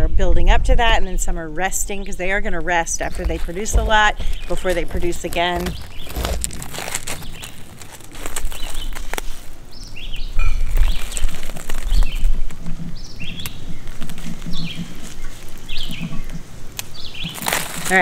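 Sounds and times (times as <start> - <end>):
birds chirping: 1.1 - 9.1, 9.7 - 18.0
peppers being picked off plants: 2.0 - 9.7, 10.4 - 18.0.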